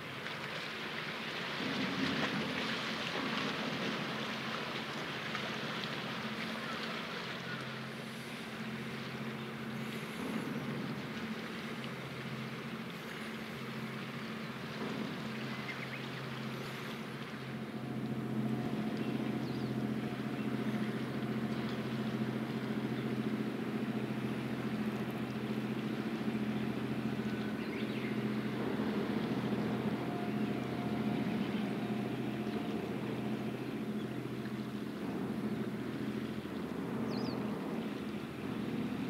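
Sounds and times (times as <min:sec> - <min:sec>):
ship machinery humming: 0:00.0 - 0:39.0
water noise from hull: 0:00.0 - 0:39.0.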